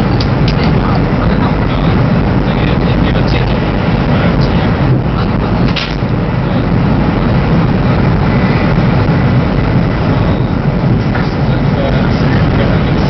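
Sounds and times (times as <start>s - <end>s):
high-speed train rumbling: 0.0s - 13.0s.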